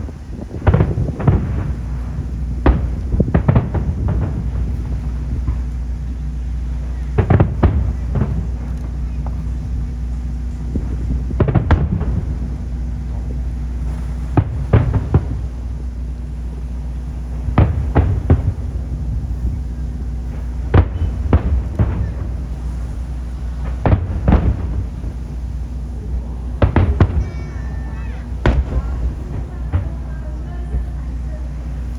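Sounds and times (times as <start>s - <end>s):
fireworks bursting bangs: 0.0s - 31.9s
steady low rumble: 0.0s - 31.9s.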